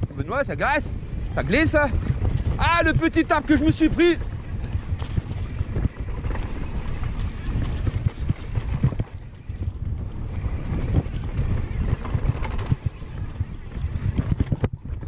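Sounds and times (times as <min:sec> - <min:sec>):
bike tyres rumbling on dirt: 0:00.0 - 0:15.0
wind over microphone: 0:00.0 - 0:15.0
bike knocks and rattles: 0:01.5 - 0:15.0.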